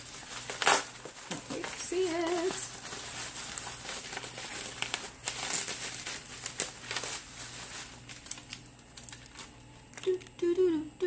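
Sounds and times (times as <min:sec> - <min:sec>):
packaging crinkling: 0:00.0 - 0:10.4.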